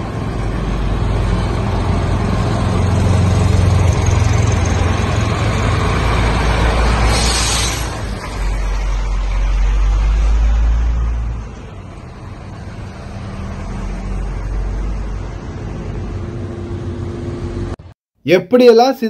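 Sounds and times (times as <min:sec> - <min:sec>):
cars humming past: 0:00.0 - 0:17.8
fire truck engine rumbling: 0:00.0 - 0:17.9.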